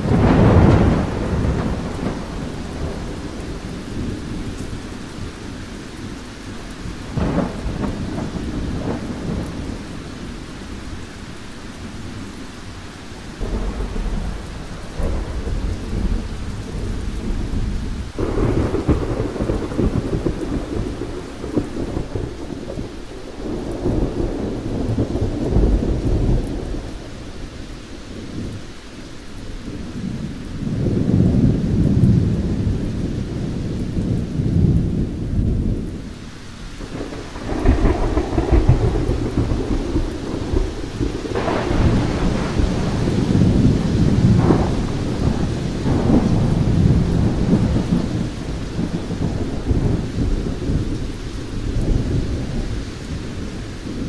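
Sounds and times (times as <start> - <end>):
rolling thunder: 0.0 - 11.0, 13.3 - 28.6, 29.7 - 36.2, 36.8 - 54.0
steady rain: 0.0 - 54.0.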